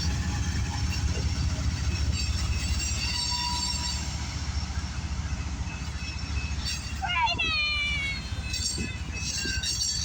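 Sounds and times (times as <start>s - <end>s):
freight train rumbling past: 0.0s - 10.0s
wheels squealing on rail: 0.0s - 10.0s.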